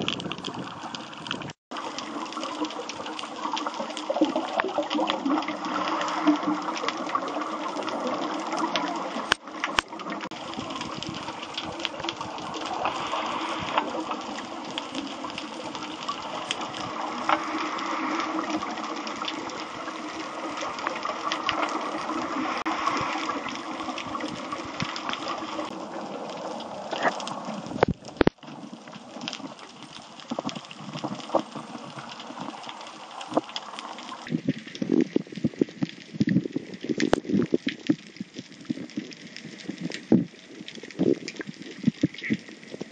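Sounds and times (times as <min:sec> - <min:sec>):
muffled underwater rushing: 0:00.0 - 0:42.9
underwater clicks and crackles: 0:00.0 - 0:42.9.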